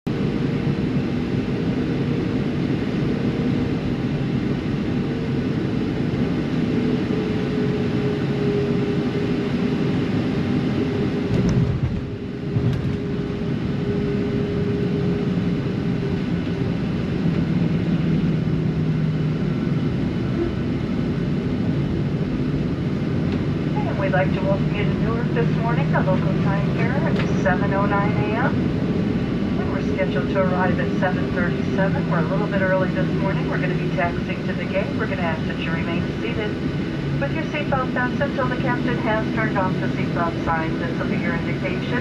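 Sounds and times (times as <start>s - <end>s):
aircraft cabin engine roar: 0.1s - 42.0s.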